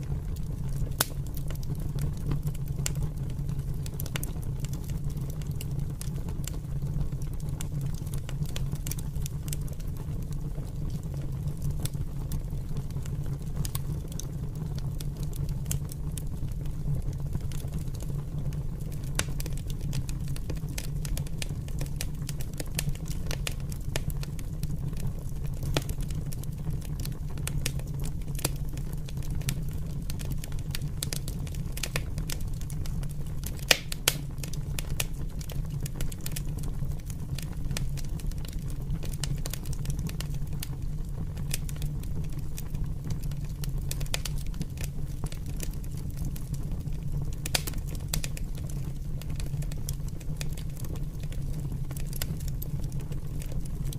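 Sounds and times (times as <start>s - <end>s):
fire crackling and popping: 0.0s - 53.9s
low fire rumble: 0.0s - 53.9s.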